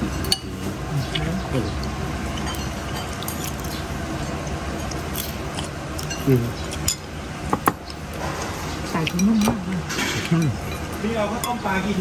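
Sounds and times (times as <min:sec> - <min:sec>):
chopsticks clinking on ceramic bowls: 0:00.0 - 0:08.0, 0:08.9 - 0:12.0.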